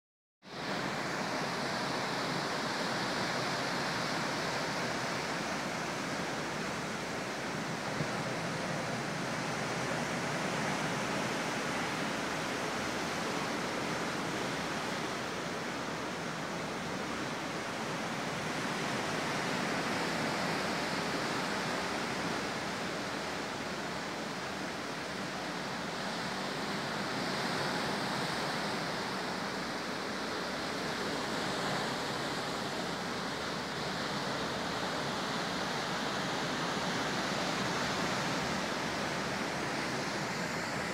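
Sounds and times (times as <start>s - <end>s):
sea surf breaking: 0.6s - 40.9s.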